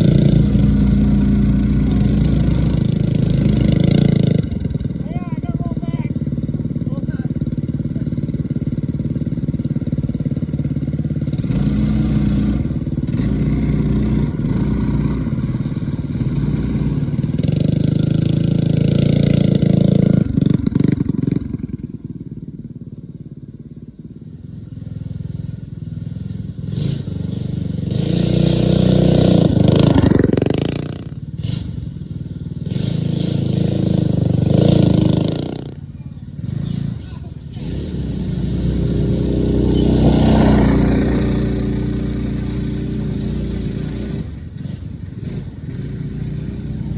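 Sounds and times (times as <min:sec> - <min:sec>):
mini bike engine revving: 0:00.0 - 0:46.9.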